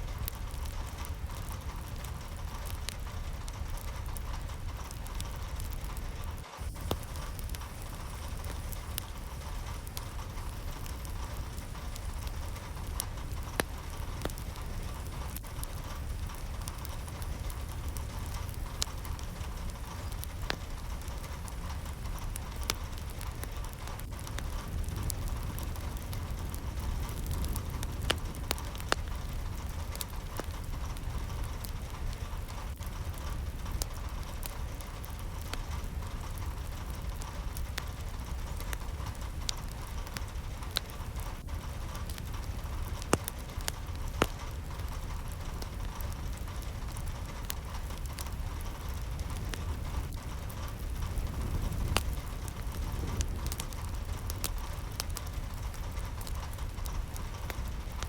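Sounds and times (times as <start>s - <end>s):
low rumble: 0.0s - 58.0s
rain drops pattering: 0.0s - 58.0s.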